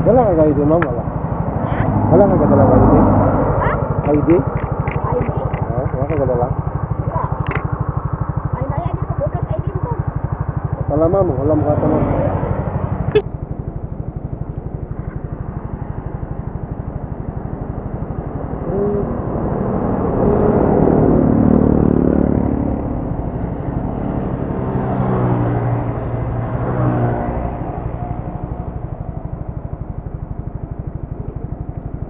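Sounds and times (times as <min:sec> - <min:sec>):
louder engine sound: 0:00.0 - 0:32.0
motorcycle engine idling: 0:00.0 - 0:32.0.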